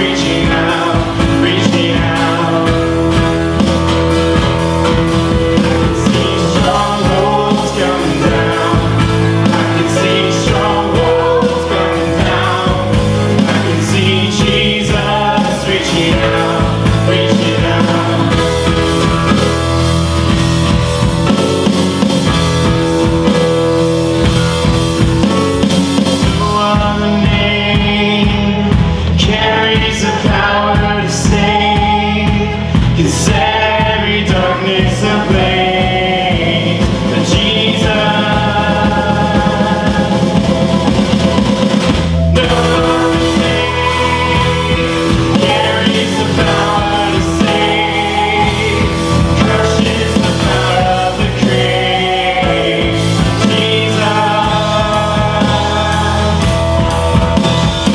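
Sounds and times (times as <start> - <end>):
worship band music: 0.0 - 57.9.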